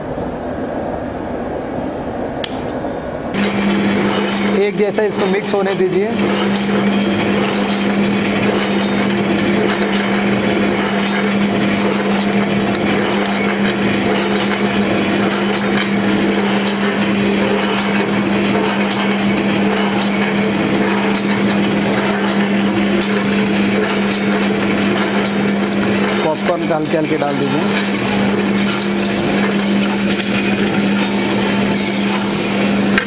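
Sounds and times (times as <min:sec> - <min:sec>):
motorised stirrer humming: 0:02.5 - 0:33.0.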